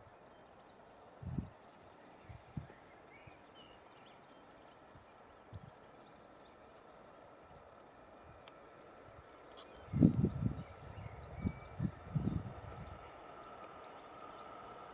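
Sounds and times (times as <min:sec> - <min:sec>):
steady low hiss: 0:00.0 - 0:14.9.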